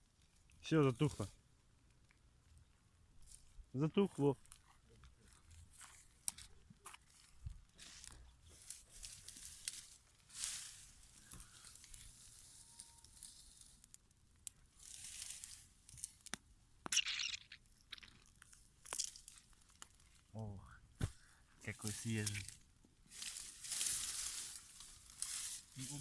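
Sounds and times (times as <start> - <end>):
dry grass rustling and crackling: 0.0 - 26.0.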